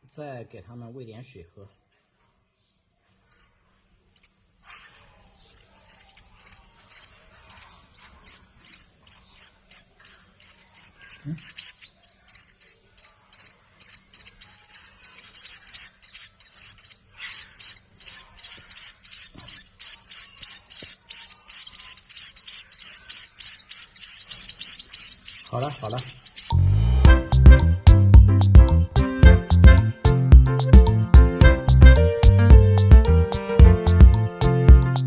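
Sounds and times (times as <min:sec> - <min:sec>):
nestlings begging chirps: 0:04.2 - 0:35.0.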